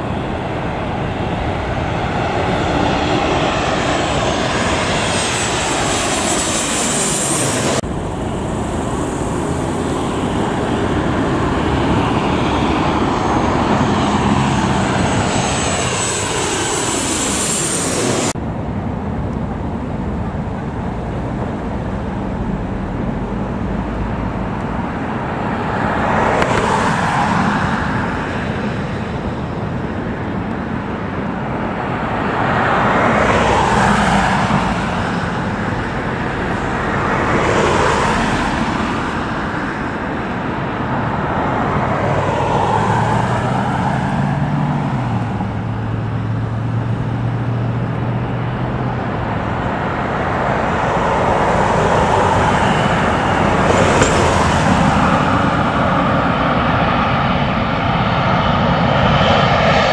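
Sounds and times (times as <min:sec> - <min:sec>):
airliner passing overhead: 0:00.0 - 0:59.9
road traffic rumble: 0:00.0 - 0:59.9
vehicles passing: 0:00.0 - 0:59.9.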